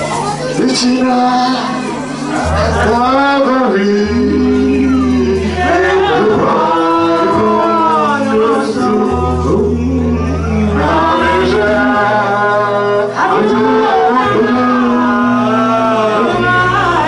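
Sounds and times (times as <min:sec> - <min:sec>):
sustained keyboard chords: 0:00.0 - 0:17.0
man singing into a microphone: 0:00.3 - 0:17.0.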